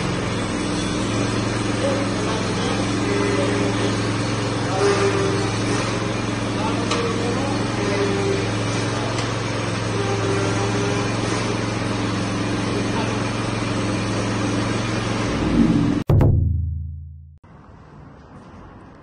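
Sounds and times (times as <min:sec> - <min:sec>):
mower engine idling: 0:00.0 - 0:15.5.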